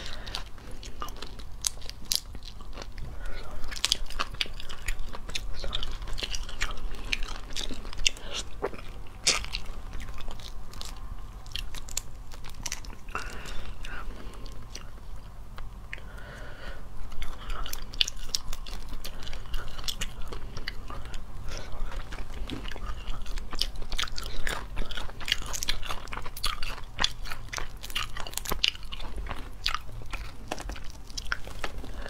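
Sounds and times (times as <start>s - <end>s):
shells cracking and crunching: 0.0s - 14.7s, 17.2s - 32.0s
chewing: 0.0s - 32.0s.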